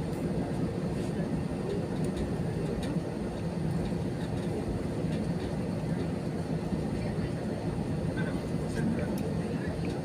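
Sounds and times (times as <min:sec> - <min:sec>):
low rumble of aircraft cabin: 0:00.0 - 0:10.0.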